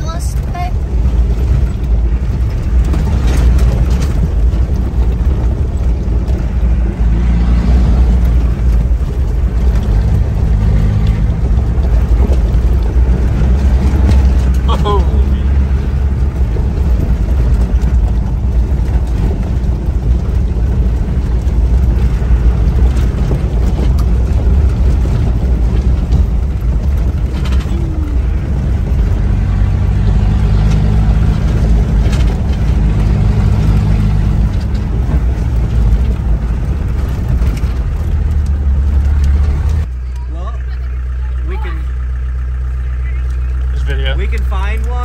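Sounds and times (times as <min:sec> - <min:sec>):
knocks and rattles: 0:00.0 - 0:40.0
diesel engine drone: 0:00.0 - 0:45.0.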